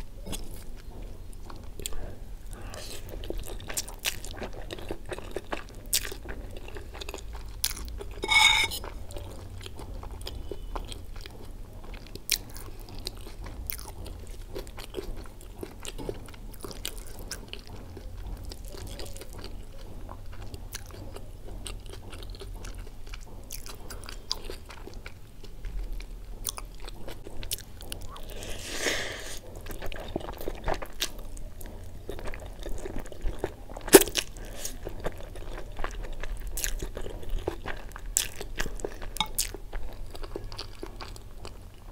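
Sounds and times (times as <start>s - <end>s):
chewing and wet mouth sounds: 0.0s - 41.9s.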